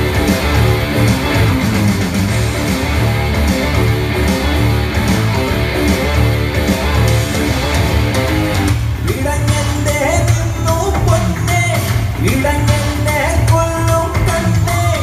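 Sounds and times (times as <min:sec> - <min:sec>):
dance music over loudspeakers: 0:00.0 - 0:15.0.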